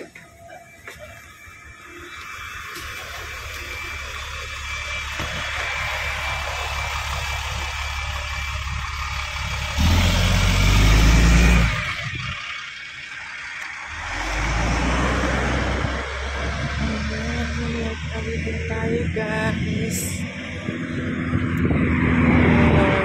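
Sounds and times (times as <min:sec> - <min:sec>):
cars passing on a road: 0:00.0 - 0:23.0
loud low rumble: 0:02.0 - 0:23.0.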